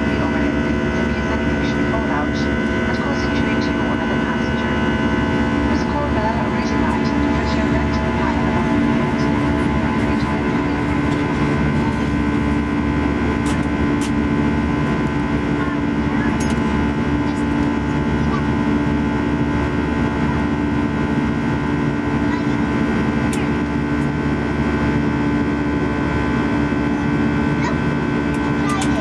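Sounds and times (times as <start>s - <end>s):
airplane cabin engine roar: 0.0s - 29.0s
constant low hum: 0.0s - 29.0s.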